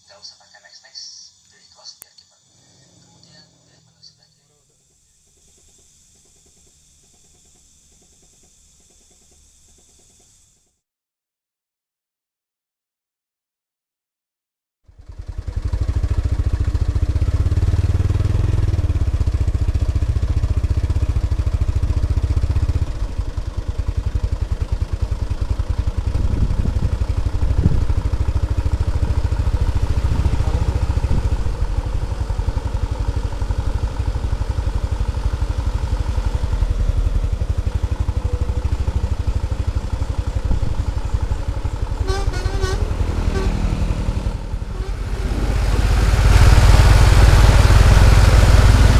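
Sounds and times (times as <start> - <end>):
large truck engine running: 2.8 - 10.8, 14.9 - 48.9.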